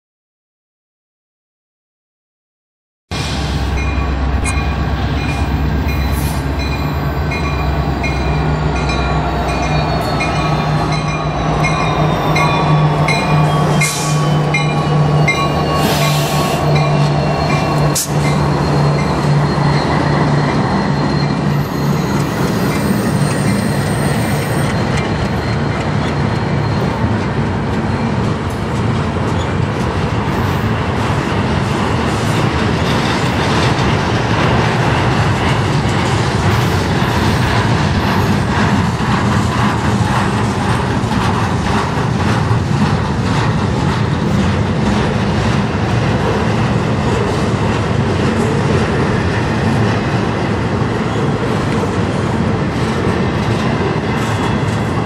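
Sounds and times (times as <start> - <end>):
locomotive engine drone: 3.1 - 55.0
train cars rumbling on rails: 3.1 - 55.0.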